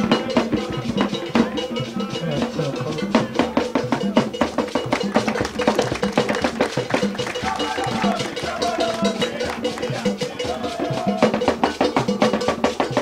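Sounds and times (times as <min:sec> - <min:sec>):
quick drum strokes: 0:00.0 - 0:13.0.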